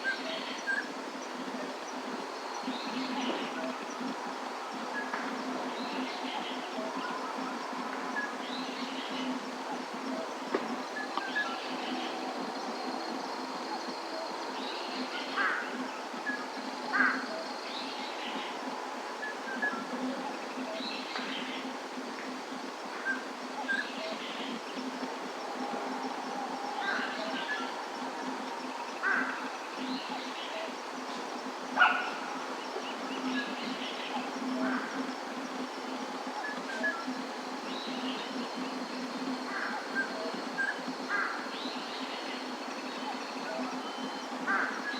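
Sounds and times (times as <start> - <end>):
background hiss and low hum: 0.0 - 44.9
outdoor ambience: 0.0 - 44.9.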